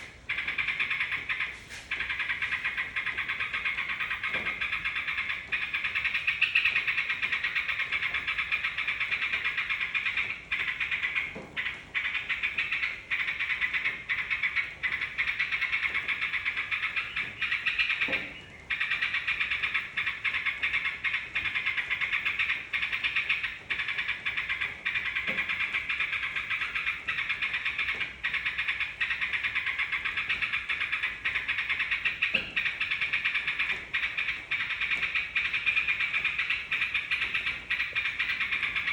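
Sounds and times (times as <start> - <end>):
chorus of birds chattering: 0.0 - 38.9.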